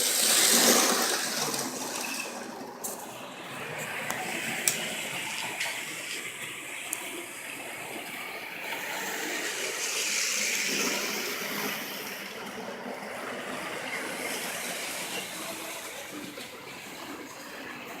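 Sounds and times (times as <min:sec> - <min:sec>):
model train rushing noise: 0:00.0 - 0:18.0.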